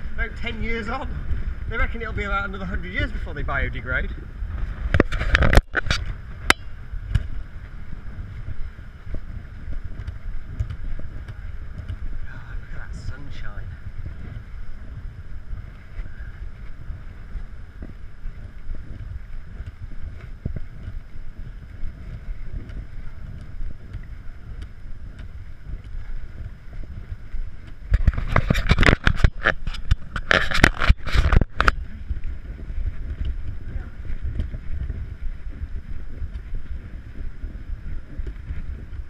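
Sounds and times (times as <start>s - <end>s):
crackling buffets and knocks: 0.0s - 39.0s
wind rumble on microphone: 0.0s - 39.0s.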